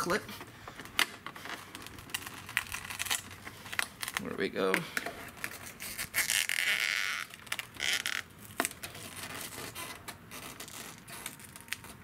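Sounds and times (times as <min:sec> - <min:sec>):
plastic panel tearing and scraping: 0:01.1 - 0:04.3, 0:05.3 - 0:12.0.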